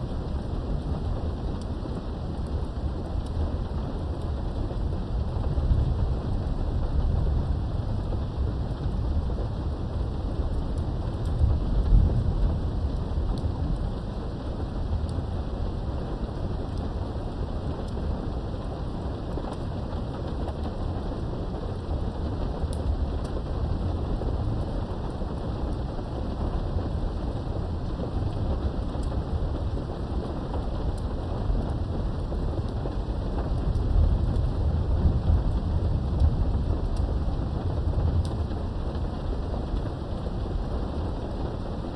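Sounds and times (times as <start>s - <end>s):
low rumble of thunder: 0.0s - 41.9s
steady rain: 0.0s - 41.9s.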